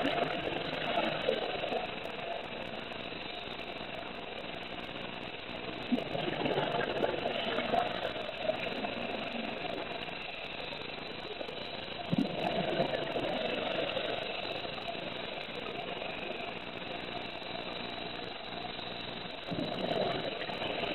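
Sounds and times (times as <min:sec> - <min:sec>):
rumbling underwater bubbles: 0:00.0 - 0:20.9
steady underwater hiss: 0:00.0 - 0:20.9.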